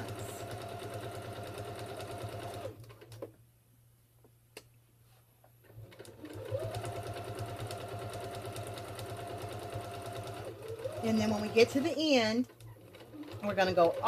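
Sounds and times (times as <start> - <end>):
electric sewing machine stitching: 0.0 - 3.1, 5.7 - 14.0.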